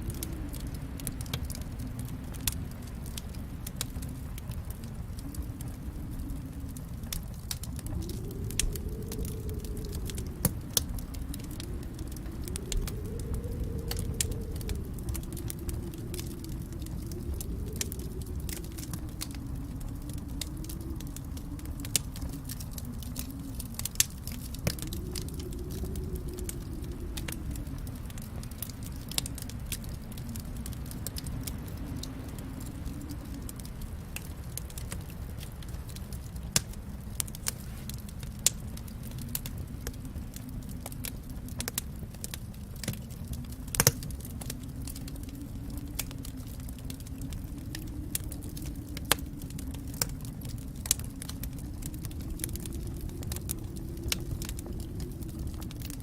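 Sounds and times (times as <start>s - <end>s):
fireplace fire crackling: 0.0s - 56.0s.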